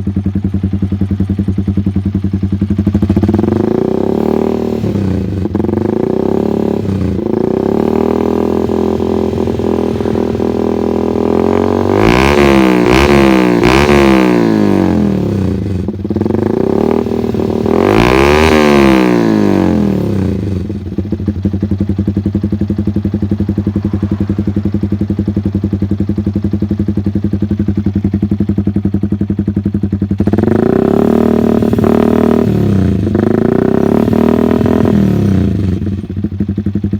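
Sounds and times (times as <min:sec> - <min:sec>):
motorcycle engine revving and idling: 0:00.0 - 0:36.9.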